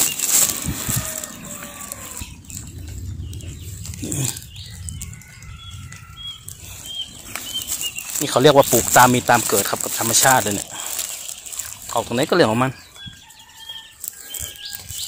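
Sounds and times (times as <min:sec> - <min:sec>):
steady low rumble: 0:00.0 - 0:12.4.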